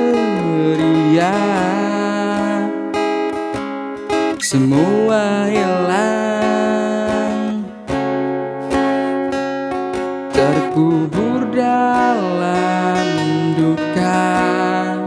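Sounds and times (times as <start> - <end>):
person singing a slow ballad: 0.0 - 3.3, 4.3 - 9.4, 10.0 - 15.0
acoustic guitar strumming: 0.0 - 15.0.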